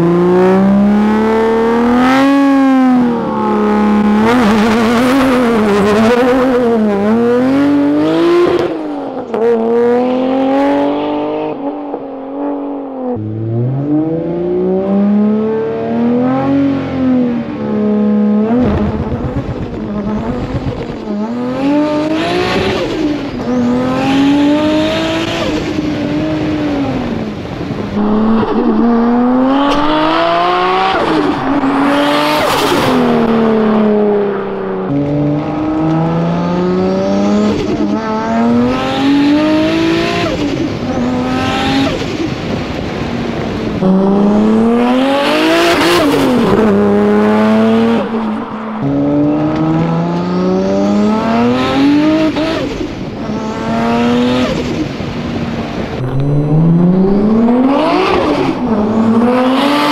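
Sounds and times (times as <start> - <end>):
car engines accelerating hard: 0.0 - 59.9.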